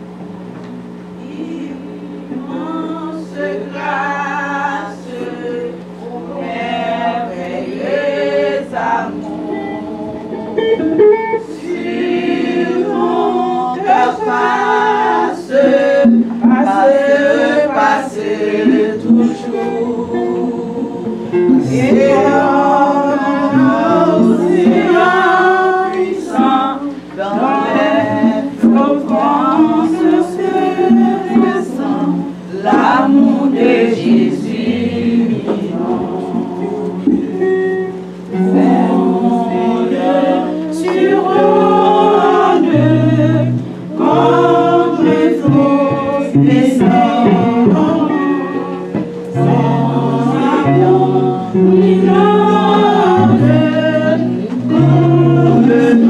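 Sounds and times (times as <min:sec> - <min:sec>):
choir singing a hymn: 0:01.1 - 0:56.0.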